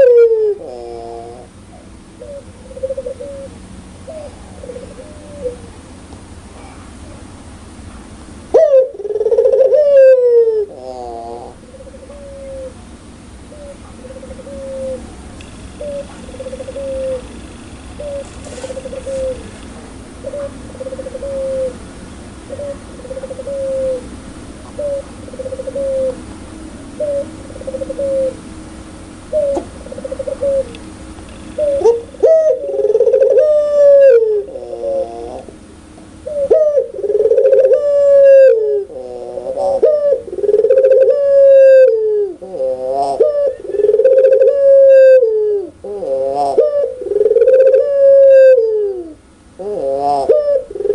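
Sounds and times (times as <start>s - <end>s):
dove cooing: 0.0s - 7.1s, 8.4s - 50.9s.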